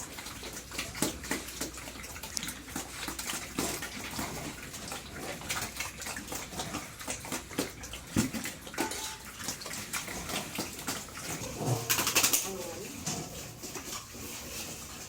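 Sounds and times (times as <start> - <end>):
wet splashing and slopping: 0.0 - 12.6.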